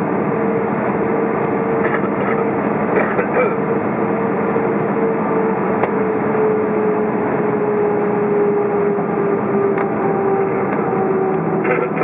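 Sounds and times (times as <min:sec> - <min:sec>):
airplane engines droning: 0:00.0 - 0:12.0
engine whine: 0:00.0 - 0:12.0.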